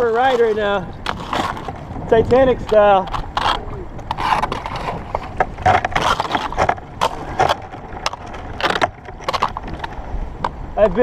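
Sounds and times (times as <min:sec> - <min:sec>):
ice chunks scraping a kayak hull: 0:00.0 - 0:11.0.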